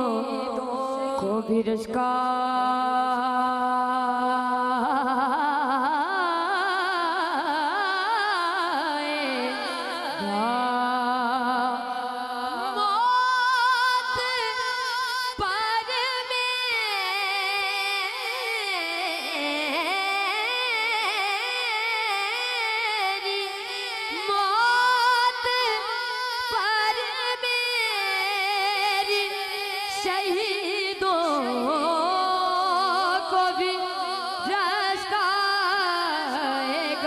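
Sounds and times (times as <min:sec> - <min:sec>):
boy singing into microphone: 0:00.0 - 0:37.0.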